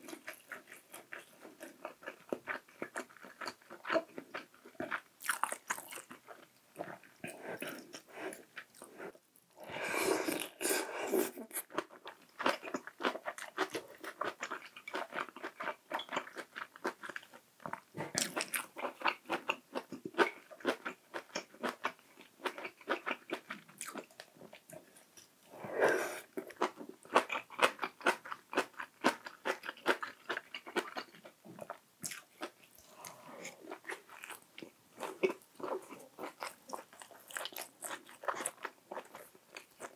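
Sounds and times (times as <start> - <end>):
person chewing: 0.1 - 39.9.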